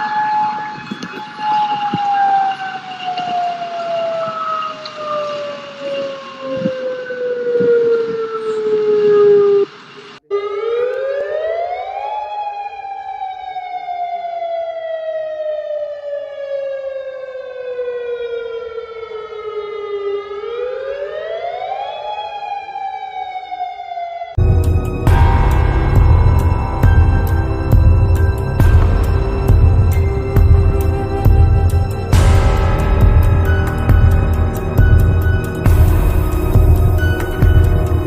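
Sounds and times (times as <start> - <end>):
warning siren wailing: 0.0 - 38.0.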